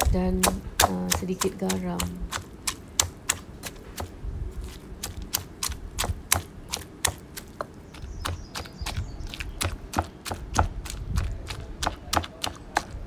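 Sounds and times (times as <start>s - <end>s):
stone pestle pounding in mortar: 0.0s - 4.2s, 5.0s - 13.0s.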